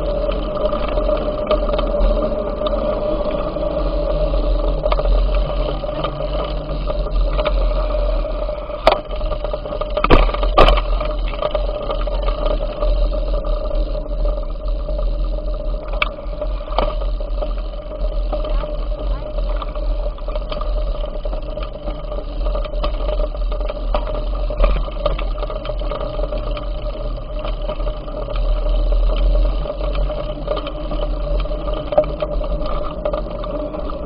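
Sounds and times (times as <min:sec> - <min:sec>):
wind and road noise: 0:00.0 - 0:34.0
bicycle knocking over bumps: 0:03.6 - 0:34.0.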